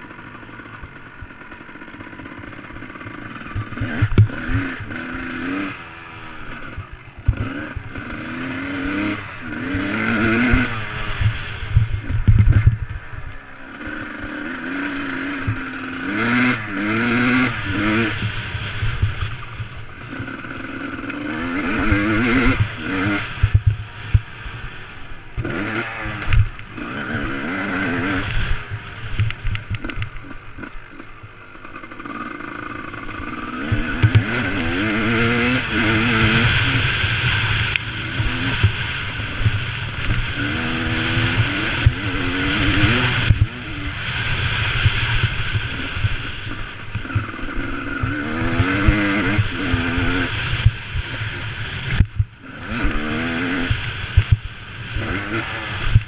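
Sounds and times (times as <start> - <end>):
motorbike engine revving: 0.0 - 56.0
steady rushing noise: 0.0 - 56.0.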